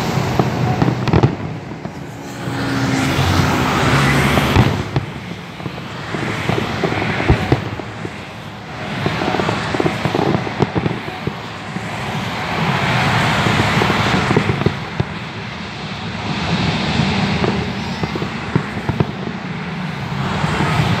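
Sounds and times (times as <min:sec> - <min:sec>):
continuous background noise: 0:00.0 - 0:21.0
distant fireworks bursting: 0:00.0 - 0:21.0.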